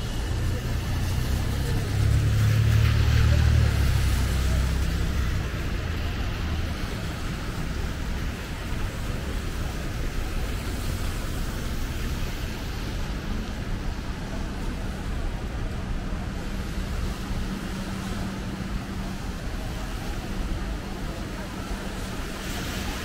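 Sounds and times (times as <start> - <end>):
traffic hiss on wet roads: 0.0 - 23.0.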